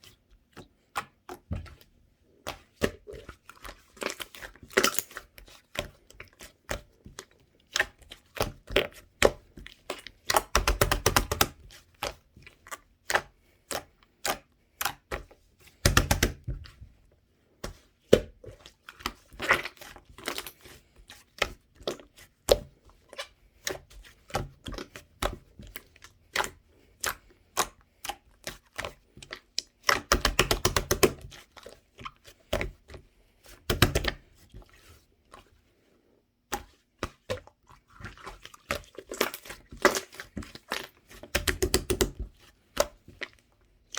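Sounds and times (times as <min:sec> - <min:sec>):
hands squishing slime: 0:00.0 - 0:35.7, 0:36.4 - 0:43.9
wet popping and crackling: 0:00.6 - 0:16.8, 0:17.6 - 0:33.0, 0:33.6 - 0:35.4, 0:36.5 - 0:43.9.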